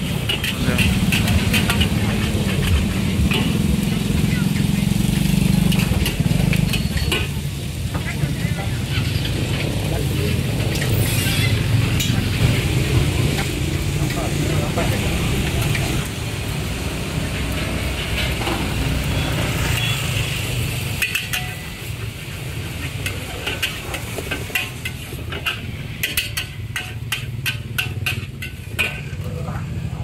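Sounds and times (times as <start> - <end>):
metal spatula scraping wok: 0.0 - 30.0.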